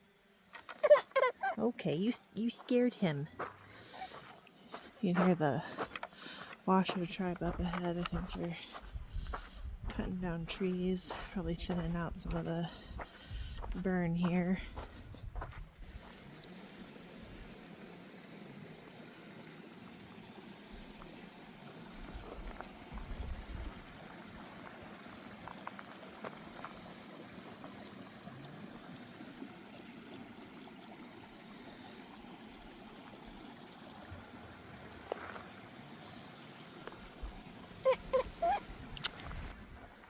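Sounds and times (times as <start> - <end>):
creek trickling: 0.0 - 9.6, 14.3 - 40.0.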